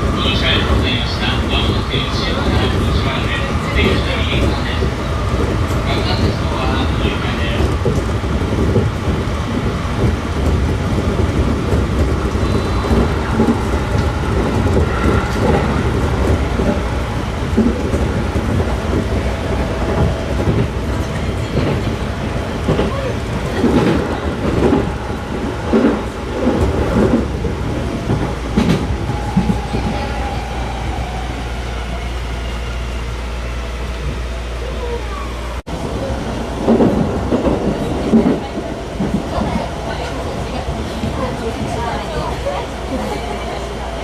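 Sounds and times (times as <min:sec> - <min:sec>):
freight train rumble: 0:00.0 - 0:44.0.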